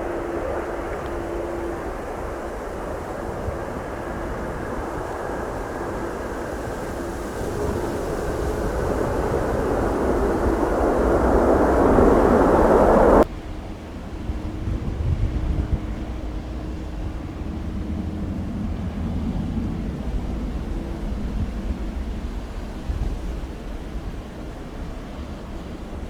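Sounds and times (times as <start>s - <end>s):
jet engine noise: 0.0s - 26.0s
wind rumbling on microphone: 0.0s - 26.0s.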